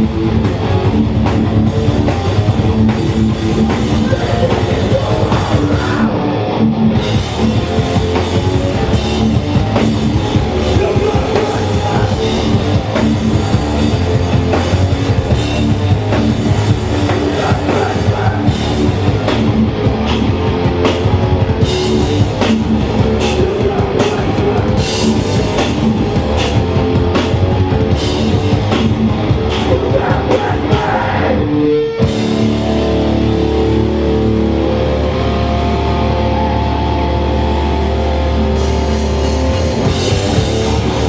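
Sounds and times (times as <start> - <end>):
punk band playing live: 0.0 - 41.0.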